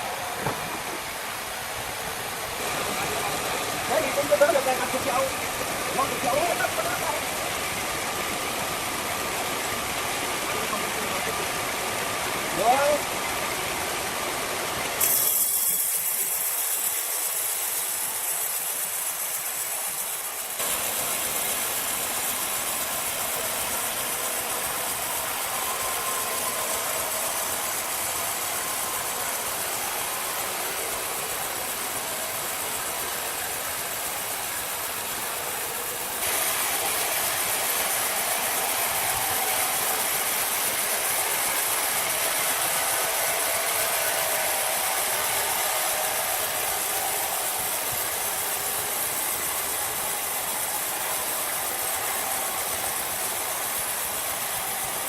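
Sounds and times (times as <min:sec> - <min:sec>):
machinery running: 0:00.0 - 0:19.8, 0:20.6 - 0:55.0.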